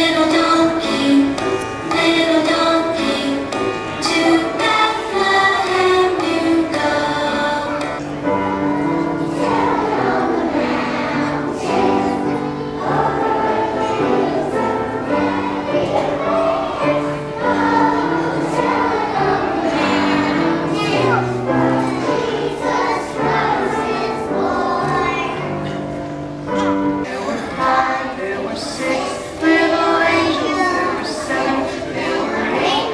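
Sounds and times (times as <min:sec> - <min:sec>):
children's choir singing: 0:00.0 - 0:32.9.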